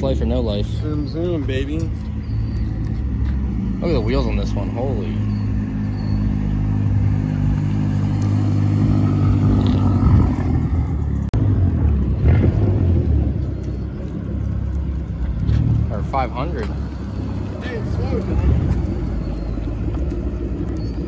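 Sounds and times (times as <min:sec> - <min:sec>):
deep vee-eight engine running: 0:00.0 - 0:21.0
car engine at low revs: 0:00.9 - 0:21.0.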